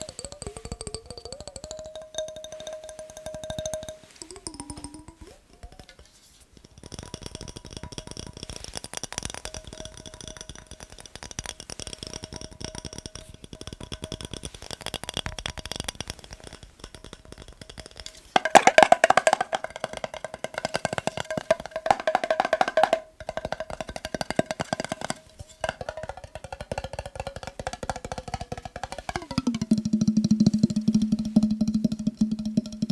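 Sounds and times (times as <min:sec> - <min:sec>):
tapping on glass jar: 0:00.0 - 0:05.0, 0:06.7 - 0:32.9.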